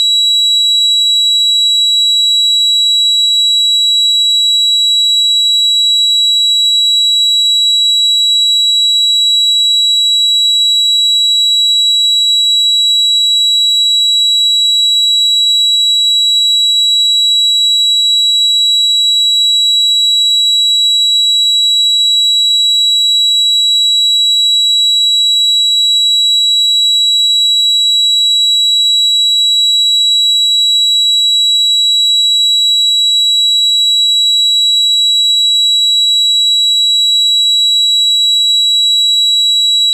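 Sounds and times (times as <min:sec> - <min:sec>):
high-pitched ringing tone: 0:00.0 - 0:39.9.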